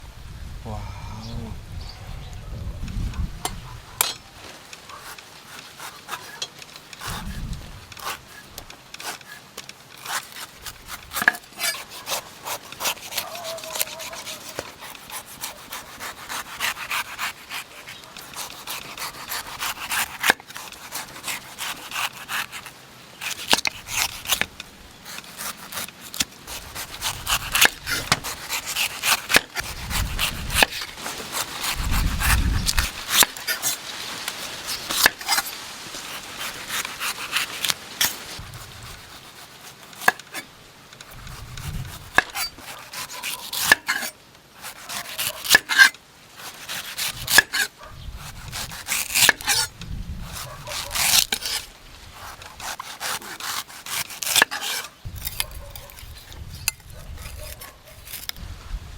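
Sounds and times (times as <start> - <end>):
knife scraping coconut husk: 3.9 - 58.5.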